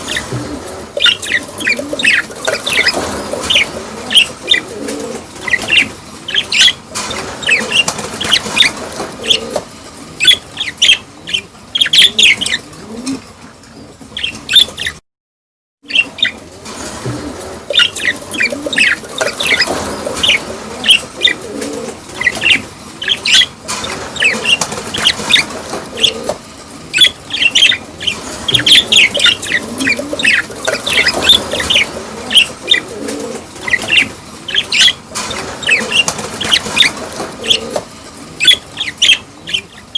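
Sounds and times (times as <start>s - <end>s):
budgerigars chirping and chattering: 0.0s - 12.8s, 14.2s - 15.0s, 15.8s - 17.0s, 17.6s - 39.9s.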